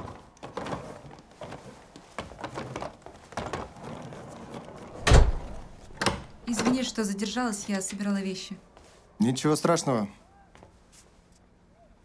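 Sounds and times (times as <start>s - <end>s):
footsteps and light knocks: 0.0s - 9.8s, 10.5s - 11.5s.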